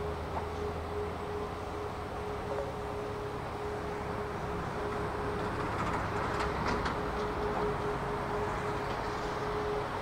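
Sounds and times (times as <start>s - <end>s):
jet engines droning: 0.0s - 10.0s.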